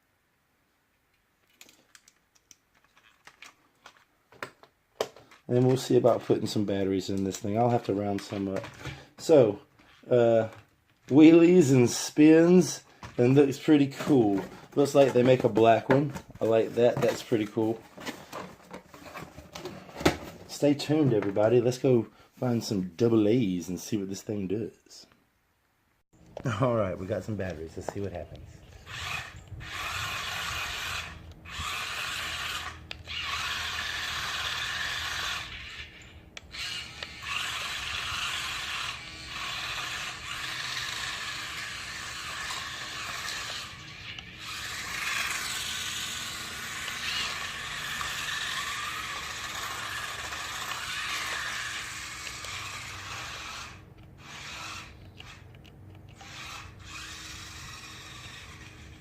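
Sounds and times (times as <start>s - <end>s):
toy car motor whirring: 5.0s - 21.5s, 27.1s - 59.0s.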